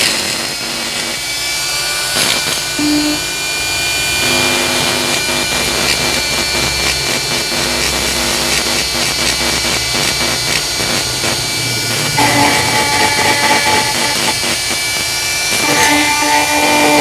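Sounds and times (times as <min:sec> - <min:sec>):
die grinder whining: 0:00.0 - 0:17.0.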